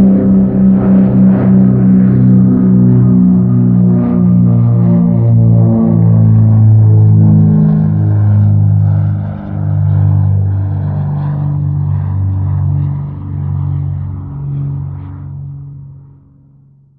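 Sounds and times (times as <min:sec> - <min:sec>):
propeller aircraft engine droning: 0:00.0 - 0:16.9.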